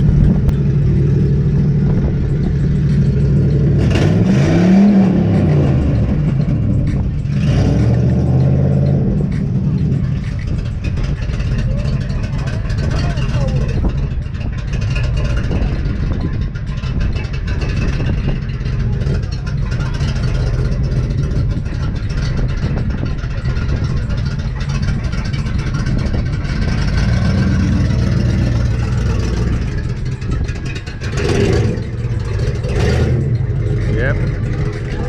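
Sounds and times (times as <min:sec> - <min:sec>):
car engine rumbling: 0:00.0 - 0:35.0.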